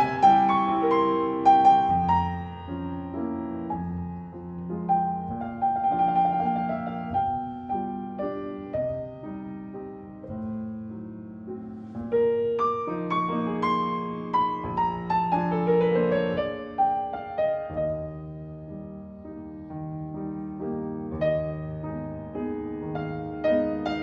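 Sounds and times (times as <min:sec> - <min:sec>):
slow classical piano piece: 0:00.0 - 0:24.0.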